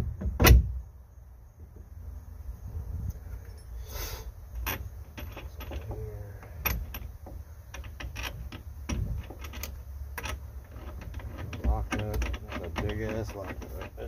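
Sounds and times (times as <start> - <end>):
steady low rumble: 0.8 - 14.0.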